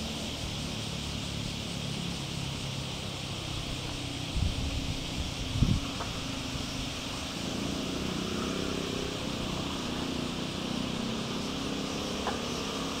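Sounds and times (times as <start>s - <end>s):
low engine drone: 0.0s - 13.0s
outdoor hiss: 0.0s - 13.0s.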